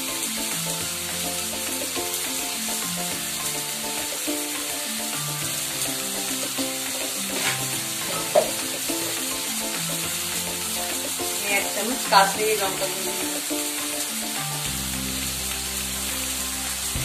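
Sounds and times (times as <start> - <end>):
background music: 0.0 - 17.0
eggplant sizzling in oil: 0.0 - 17.0.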